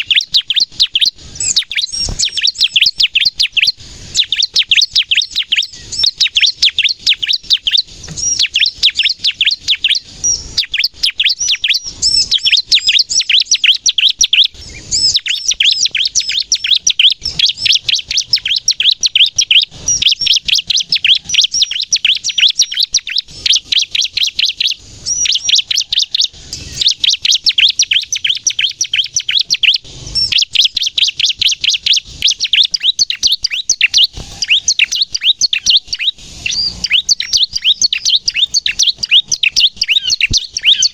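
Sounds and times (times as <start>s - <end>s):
bird singing high sharp chirps: 0.0s - 40.9s.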